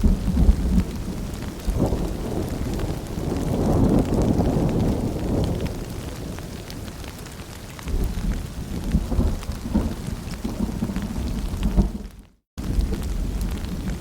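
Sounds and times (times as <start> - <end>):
rumble of thunder: 0.0 - 7.2, 7.8 - 14.0
rain falling: 0.0 - 14.0.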